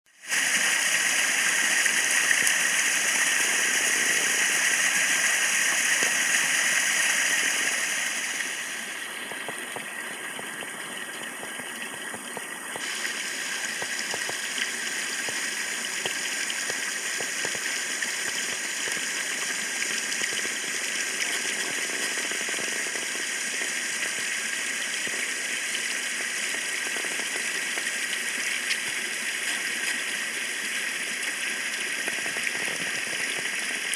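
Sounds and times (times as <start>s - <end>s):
waterfall splashing into pool: 0.1s - 33.9s.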